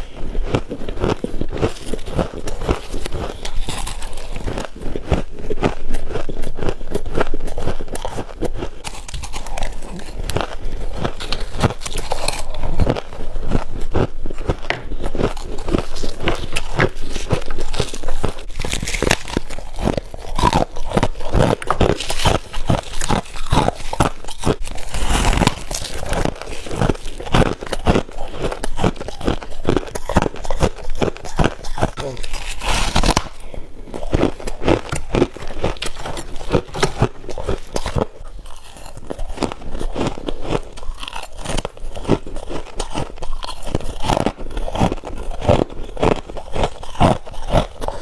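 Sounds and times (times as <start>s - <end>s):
frost being chewed crunching: 0.0s - 48.0s.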